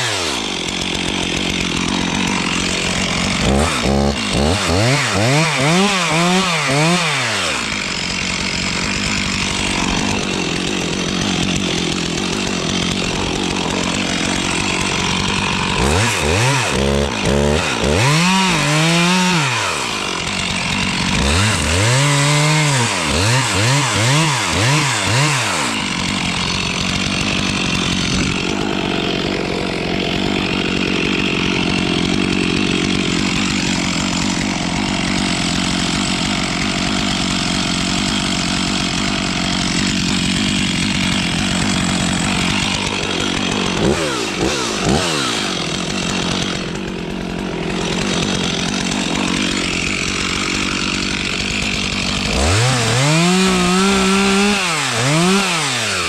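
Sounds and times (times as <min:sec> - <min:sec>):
chainsaw cutting wood: 0:00.0 - 0:56.0
chainsaw revving: 0:00.0 - 0:56.0.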